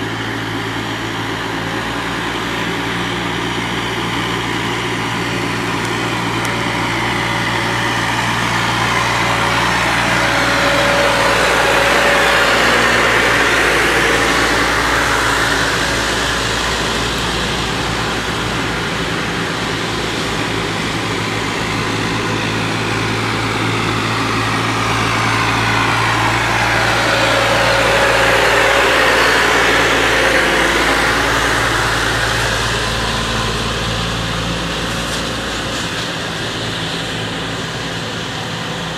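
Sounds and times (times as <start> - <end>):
tractor diesel engines running: 0.0 - 38.9.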